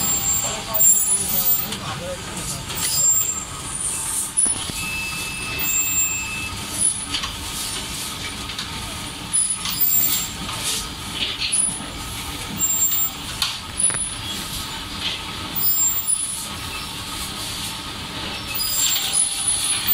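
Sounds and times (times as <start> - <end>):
machinery rumble and hum: 0.0 - 19.9.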